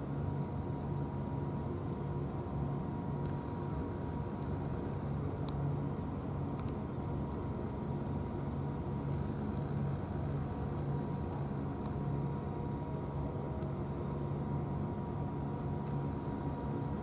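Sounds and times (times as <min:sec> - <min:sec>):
thin constant whine: 0:00.0 - 0:17.0.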